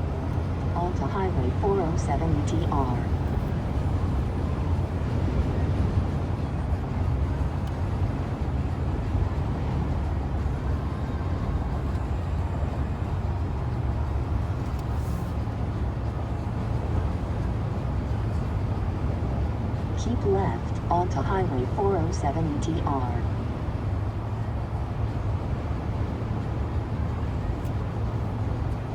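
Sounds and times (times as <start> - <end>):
car cruising on highway: 0.0 - 28.9.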